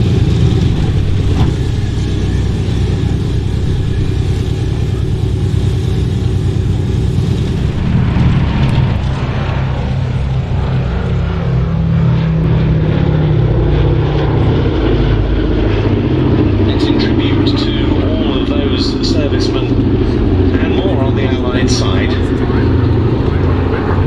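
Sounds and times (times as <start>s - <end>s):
propeller plane engines droning: 0.0s - 24.0s.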